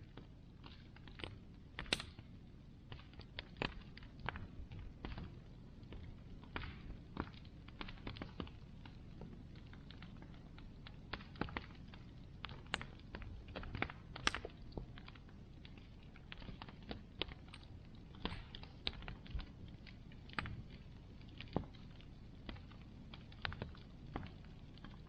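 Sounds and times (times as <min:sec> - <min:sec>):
burning wood popping: 0:00.0 - 0:25.0.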